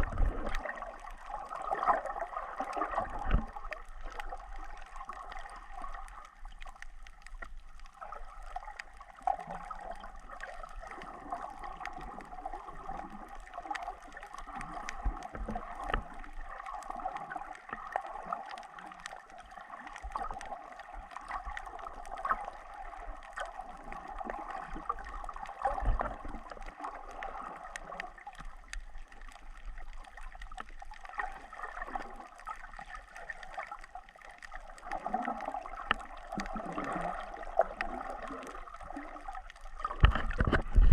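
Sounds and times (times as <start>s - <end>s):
water sloshing and gurgling: 0.0s - 40.9s
faint clicks: 0.1s - 40.9s.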